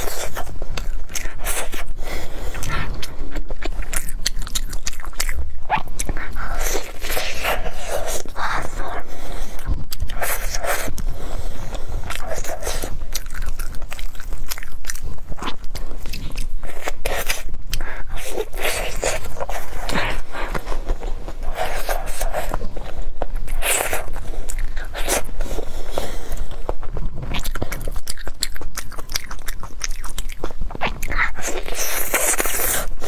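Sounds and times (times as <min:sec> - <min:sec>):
biting and chewing cake: 0:00.0 - 0:33.0.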